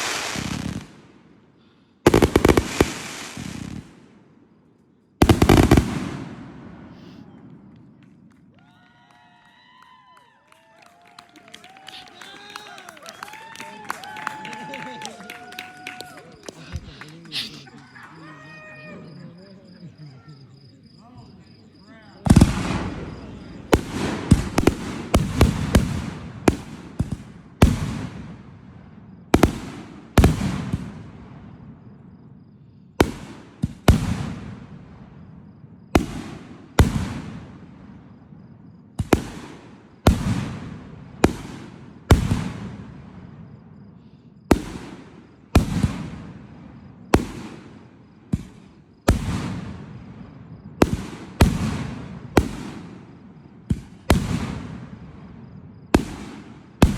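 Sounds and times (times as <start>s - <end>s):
fireworks bangs: 0.0s - 4.6s, 5.2s - 56.9s
fireworks rumble and crackle: 0.0s - 56.9s.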